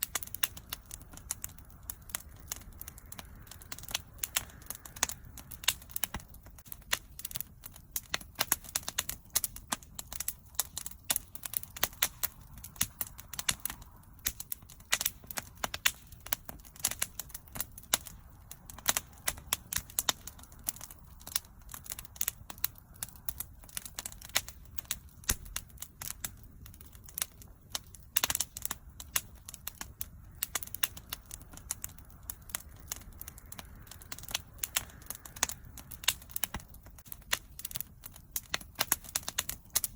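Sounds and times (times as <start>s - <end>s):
bonfire crackling and popping: 0.0s - 39.9s
low rumble of flame: 0.0s - 39.9s.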